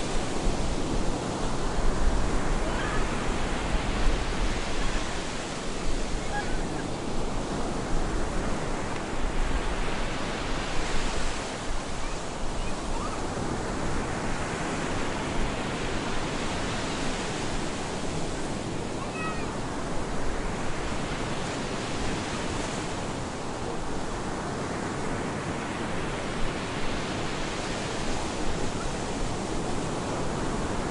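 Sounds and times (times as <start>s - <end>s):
stormy surf breaking: 0.0s - 30.9s.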